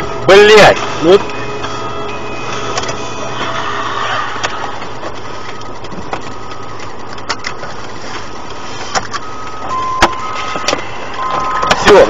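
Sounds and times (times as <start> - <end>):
car cabin road and engine noise: 0.0 - 12.0.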